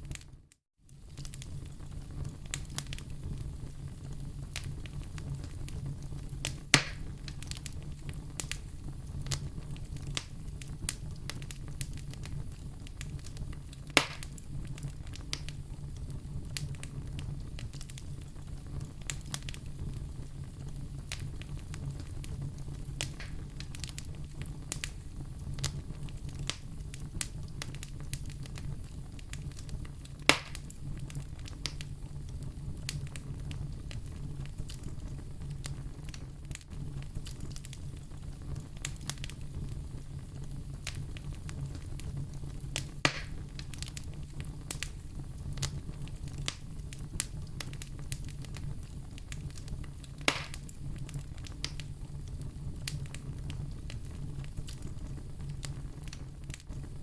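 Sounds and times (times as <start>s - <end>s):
fire crackling: 0.0s - 57.0s
loud fire pops: 0.9s - 57.0s.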